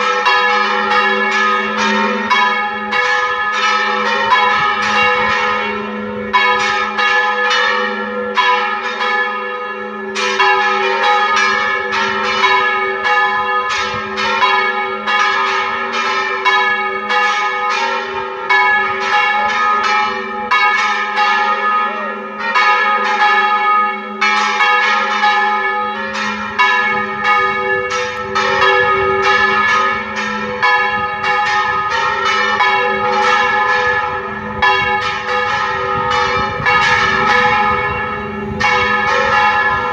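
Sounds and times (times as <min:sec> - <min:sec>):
church bells ringing: 0:00.0 - 0:39.9
hum of large bells: 0:00.0 - 0:39.9.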